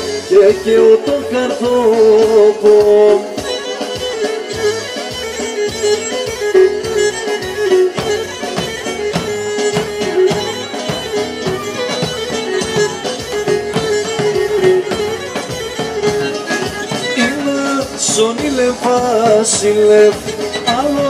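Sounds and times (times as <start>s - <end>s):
bowed lyra folk dance melody: 0.0s - 21.0s
steady beat: 0.0s - 21.0s.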